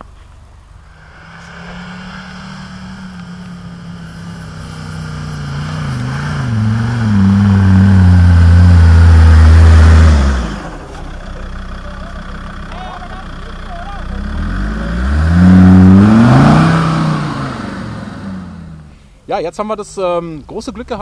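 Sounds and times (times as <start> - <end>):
off-road truck engine revving: 0.0 - 21.0.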